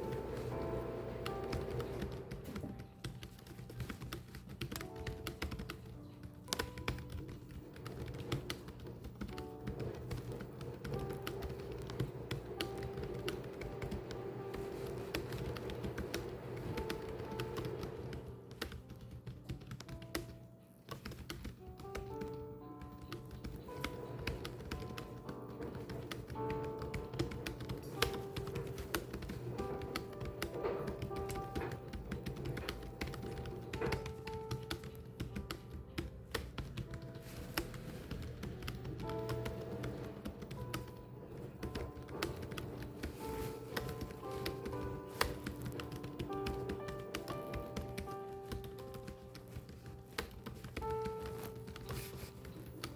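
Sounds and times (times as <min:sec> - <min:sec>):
background music: 0:00.0 - 0:52.9
keyboard typing clicks: 0:00.0 - 0:52.9.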